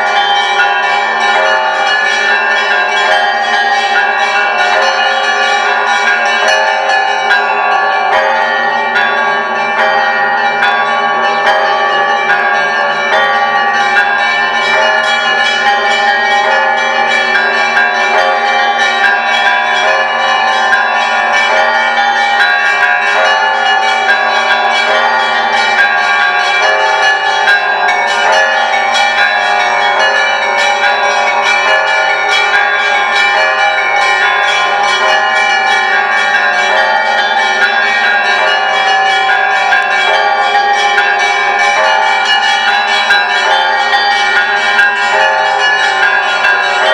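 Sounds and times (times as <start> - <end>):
hum of large church bells: 0.0 - 46.9
quick strikes on small church bells: 0.0 - 46.9.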